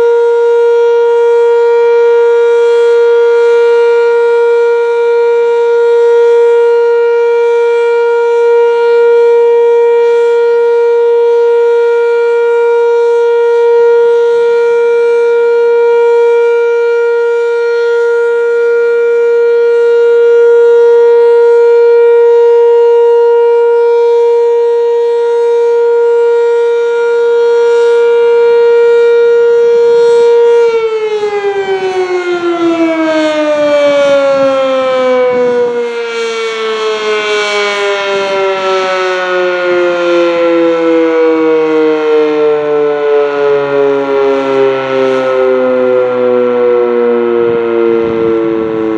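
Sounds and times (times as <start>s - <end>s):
outdoor warning siren: 0.0s - 48.9s.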